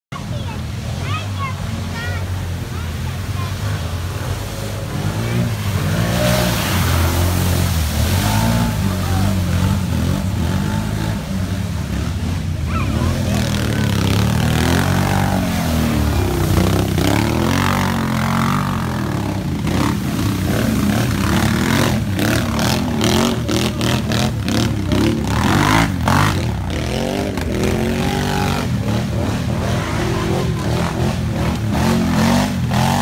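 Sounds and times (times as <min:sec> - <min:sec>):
quad bike engines revving: 0:00.1 - 0:33.0.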